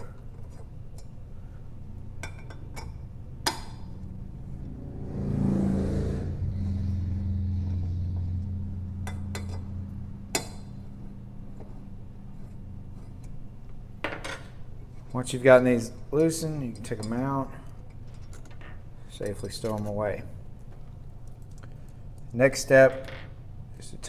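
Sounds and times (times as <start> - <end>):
low steady rumble: 0.0 - 22.5.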